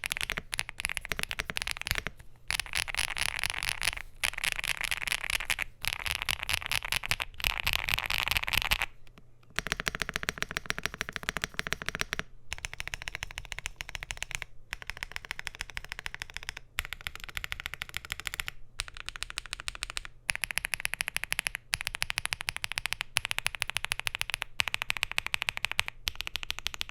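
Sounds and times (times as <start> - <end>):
fast mechanical keyboard typing: 0.0 - 8.9, 9.6 - 26.9.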